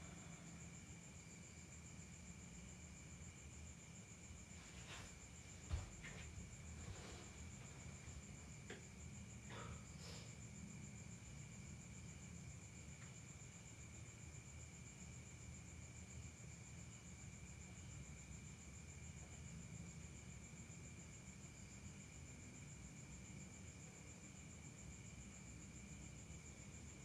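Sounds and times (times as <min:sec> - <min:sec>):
crickets trilling: 0:00.0 - 0:27.0
low insect drone: 0:00.0 - 0:27.0.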